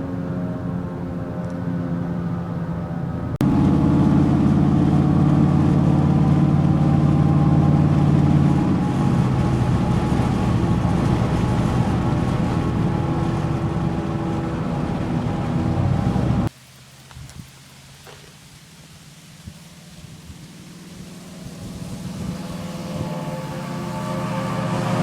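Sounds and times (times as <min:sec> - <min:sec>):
tires droning on road: 0:00.0 - 0:16.5, 0:19.6 - 0:25.0.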